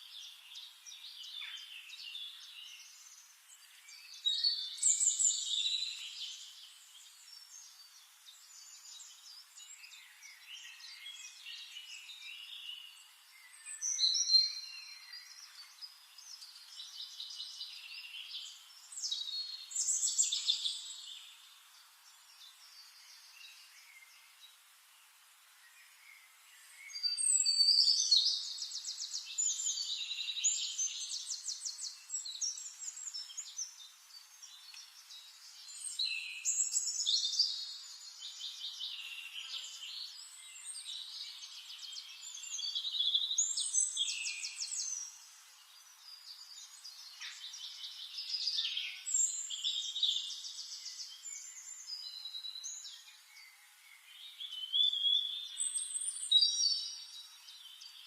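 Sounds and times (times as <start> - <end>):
small songbirds singing: 0.0 - 58.0.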